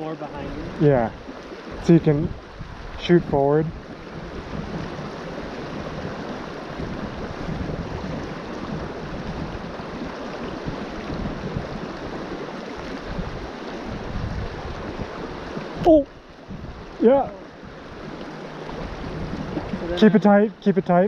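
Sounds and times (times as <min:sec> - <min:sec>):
river water rushing: 0:00.0 - 0:21.0
wind buffeting microphone: 0:00.4 - 0:21.0.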